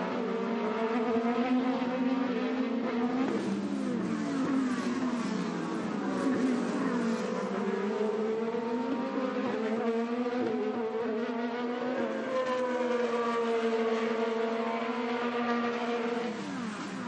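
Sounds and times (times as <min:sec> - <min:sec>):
racing car engine at high revs: 0:00.0 - 0:17.0.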